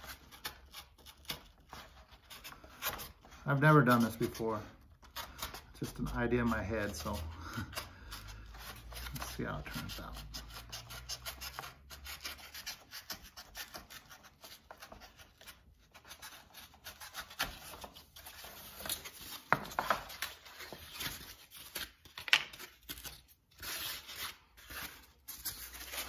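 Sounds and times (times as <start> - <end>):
craft knife cutting paper pulp: 0.0 - 26.0.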